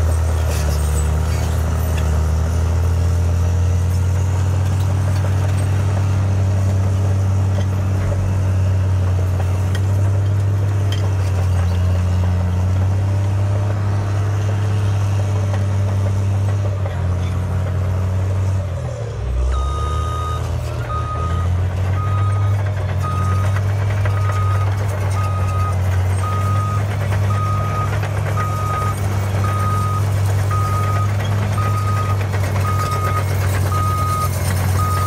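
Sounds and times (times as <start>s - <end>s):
bulldozer diesel engine droning: 0.0s - 35.0s.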